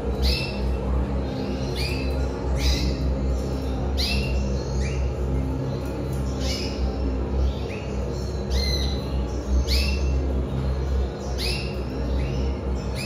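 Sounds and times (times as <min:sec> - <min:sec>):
canaries chirping: 0:00.0 - 0:13.0
steady low hum: 0:00.0 - 0:13.0.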